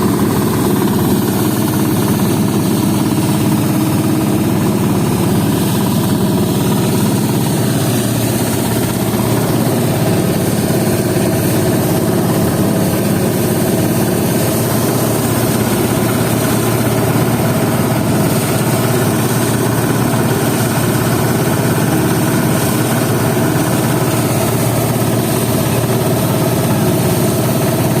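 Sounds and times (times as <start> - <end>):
threshing machine humming: 0.0 - 28.0.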